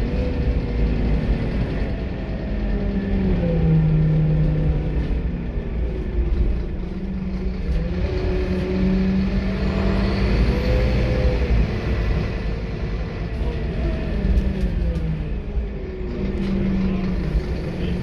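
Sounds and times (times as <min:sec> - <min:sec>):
bus diesel engine accelerating: 0:00.0 - 0:18.0.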